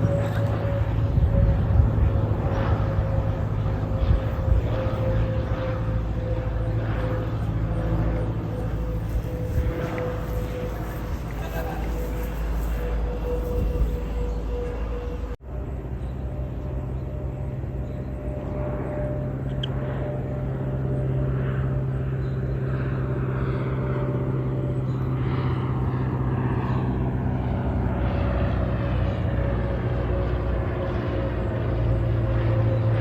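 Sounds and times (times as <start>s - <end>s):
light plane engine droning: 0.0s - 33.0s.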